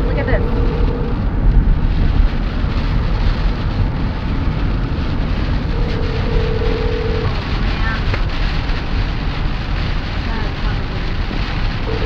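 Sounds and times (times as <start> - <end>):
road and wind noise inside car: 0.0 - 12.0.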